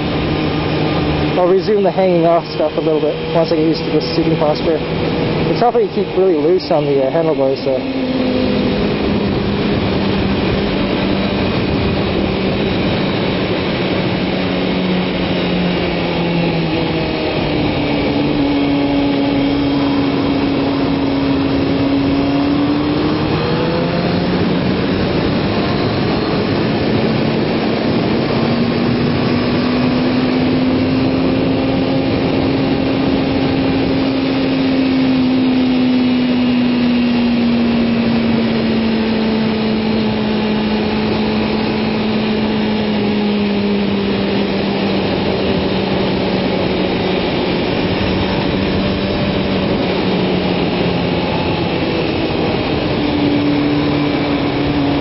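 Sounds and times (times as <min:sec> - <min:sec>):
motorcycle engine revving: 0:00.0 - 0:55.0
wind rushing: 0:07.8 - 0:55.0.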